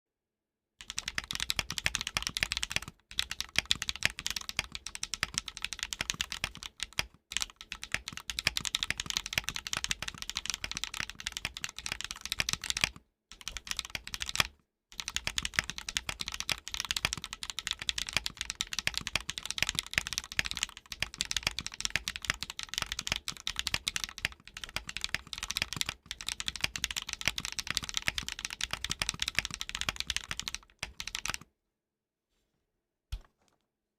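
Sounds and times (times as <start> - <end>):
fast mechanical keyboard typing: 0.8 - 31.4.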